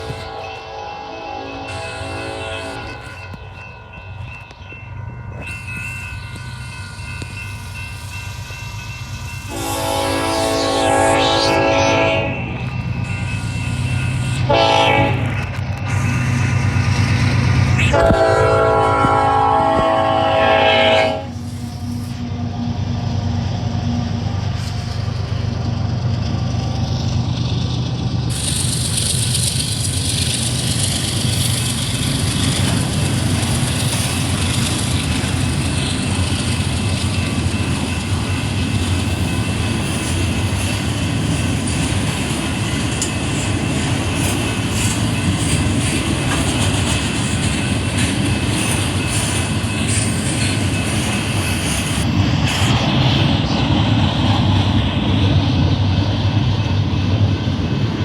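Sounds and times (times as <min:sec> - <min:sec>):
diesel locomotive engines running: 0:00.0 - 0:58.0
rail clicks: 0:00.0 - 0:58.0
train wheels rumbling on rails: 0:00.0 - 0:58.0.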